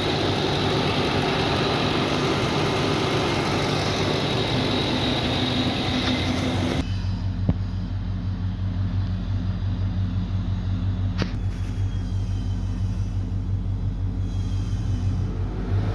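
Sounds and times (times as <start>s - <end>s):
engine idling: 0.0s - 15.9s.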